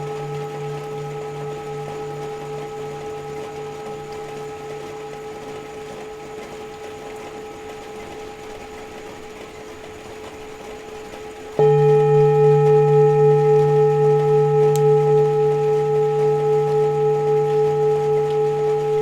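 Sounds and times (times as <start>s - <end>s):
singing bowl struck: 0.0s - 9.3s, 11.6s - 19.0s
singing bowls ringing: 0.0s - 19.0s.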